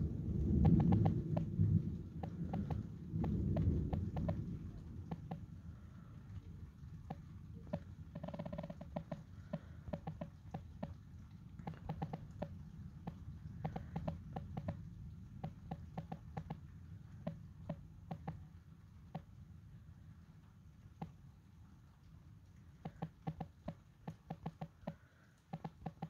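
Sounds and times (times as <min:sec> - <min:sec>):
low steady rumble: 0:00.0 - 0:24.2
raindrops dripping on hard surface: 0:00.0 - 0:26.0.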